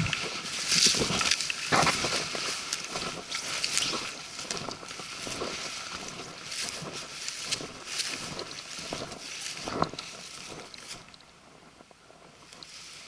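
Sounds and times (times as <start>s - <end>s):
brush rustling and scraping: 0.0s - 11.2s, 12.4s - 13.0s
twigs snapping: 0.0s - 11.2s
footsteps in undergrowth: 0.0s - 11.3s, 12.4s - 13.0s.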